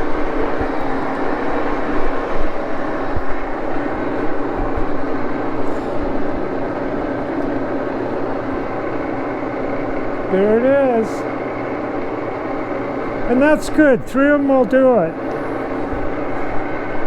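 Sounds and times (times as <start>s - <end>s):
lathe cutting metal: 0.0s - 17.0s.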